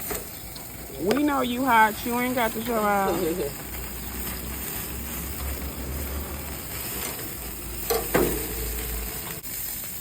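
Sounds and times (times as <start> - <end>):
meat sizzling on grill: 0.0 - 10.0.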